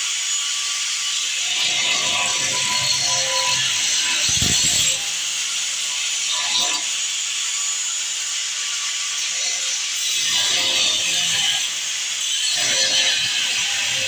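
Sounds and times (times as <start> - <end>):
power tool cutting steel: 0.0 - 14.0.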